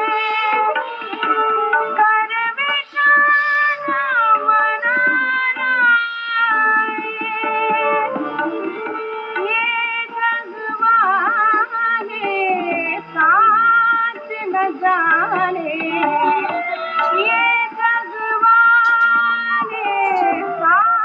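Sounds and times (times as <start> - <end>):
vocal music through radio speaker: 0.0 - 21.0.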